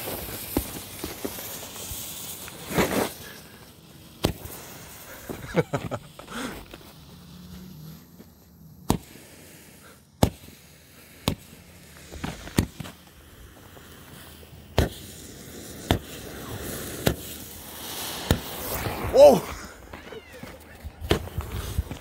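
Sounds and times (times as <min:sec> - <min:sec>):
firework hissing: 0:00.0 - 0:22.0
firework sharp cracks: 0:00.0 - 0:22.0.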